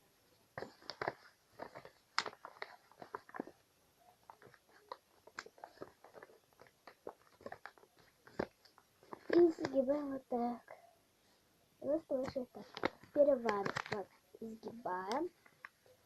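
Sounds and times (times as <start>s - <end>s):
paper crackling and rustling: 0.5s - 10.5s, 11.8s - 15.8s.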